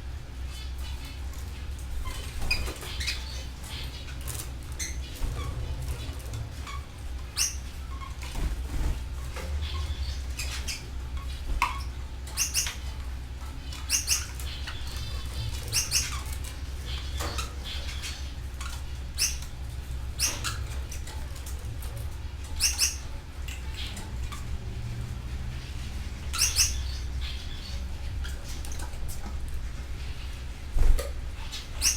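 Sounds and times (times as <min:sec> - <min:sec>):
canaries chirping: 0:00.2 - 0:31.9.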